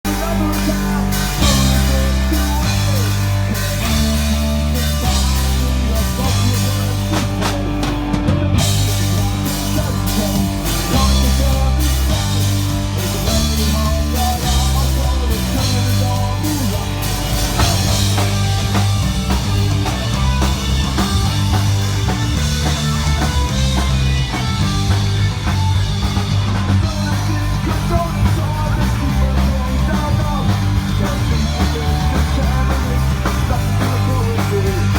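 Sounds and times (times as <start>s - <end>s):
bass line: 0.0s - 34.9s
drum kit: 0.0s - 34.9s
electric guitars: 0.0s - 34.9s
punk rock band playing live: 0.0s - 34.9s.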